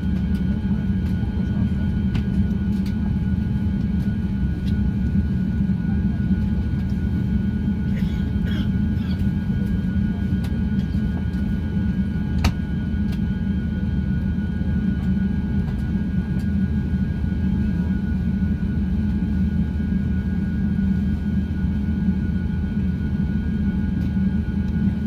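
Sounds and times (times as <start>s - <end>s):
airplane cabin rumble: 0.0s - 25.0s
engine and air system whine: 0.0s - 25.0s.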